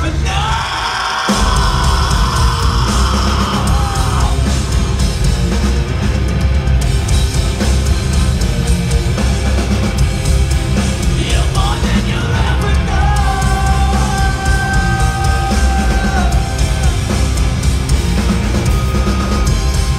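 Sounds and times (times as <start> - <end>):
rock band playing: 0.0 - 19.9.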